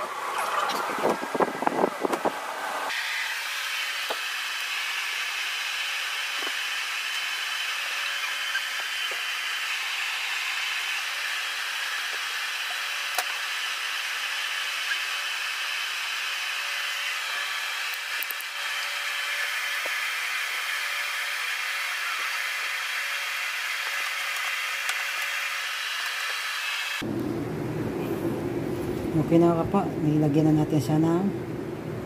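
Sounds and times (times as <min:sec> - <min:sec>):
electric appliance blower noise: 0:00.0 - 0:29.8.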